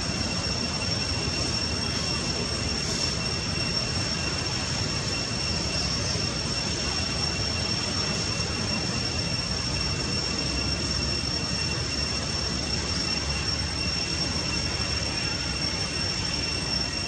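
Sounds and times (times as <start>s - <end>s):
high-pitched whine: 0.0s - 17.0s.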